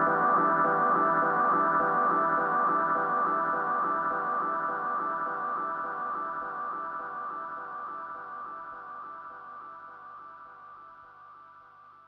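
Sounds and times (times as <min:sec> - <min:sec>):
ambient electronic music: 0:00.0 - 0:09.9.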